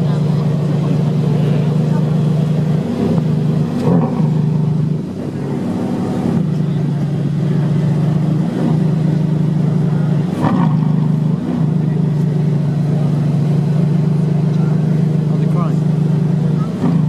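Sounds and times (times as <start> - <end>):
car engine droning: 0.0 - 17.0
engine throttle blips: 0.0 - 17.0.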